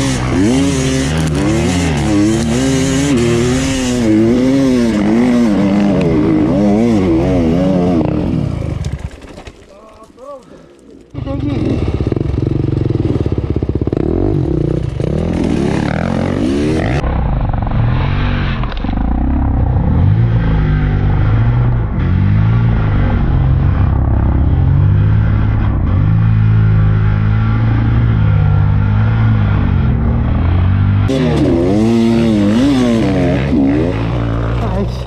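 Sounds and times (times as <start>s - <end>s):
motorcycle engine revving: 0.0s - 9.4s, 11.1s - 35.0s.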